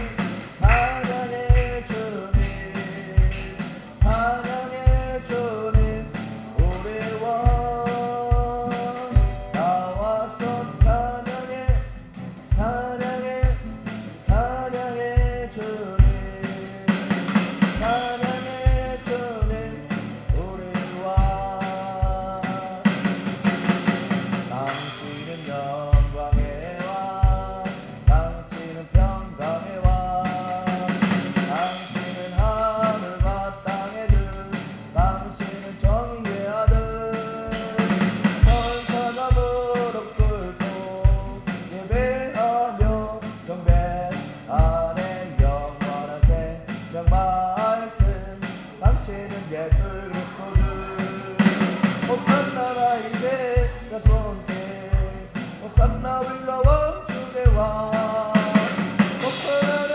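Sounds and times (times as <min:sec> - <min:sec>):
acoustic guitar strumming: 0:00.0 - 0:59.9
electronic drum kit beat: 0:00.0 - 0:59.9
man singing: 0:00.0 - 0:59.9.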